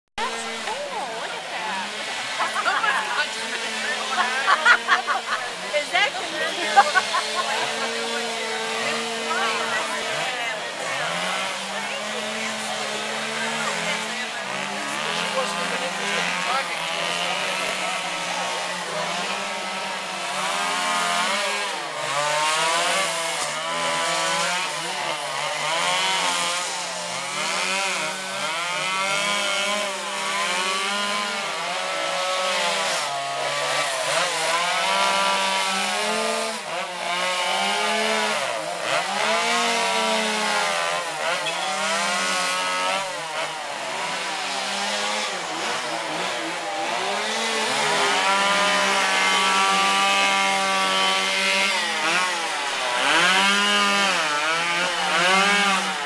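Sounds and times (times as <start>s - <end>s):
chainsaws revving: 0.2s - 56.0s.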